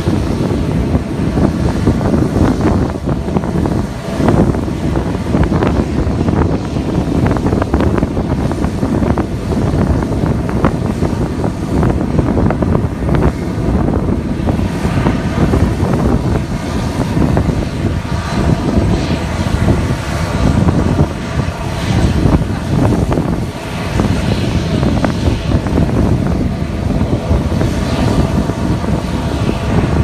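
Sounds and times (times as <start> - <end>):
turboprop engines running: 0.0 - 30.0
wind buffeting microphone: 0.0 - 30.0.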